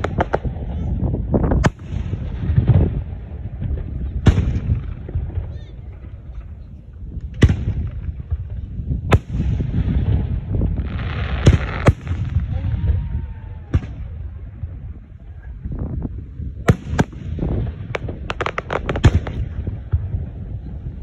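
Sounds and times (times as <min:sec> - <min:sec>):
firework bangs: 0:00.0 - 0:15.2, 0:16.6 - 0:21.0
low rumble: 0:00.0 - 0:21.0.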